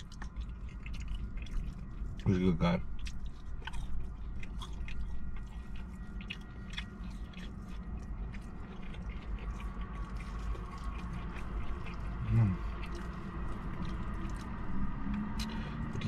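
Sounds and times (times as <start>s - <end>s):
person chewing food: 0.0s - 16.0s
steady low rumble: 0.0s - 16.0s.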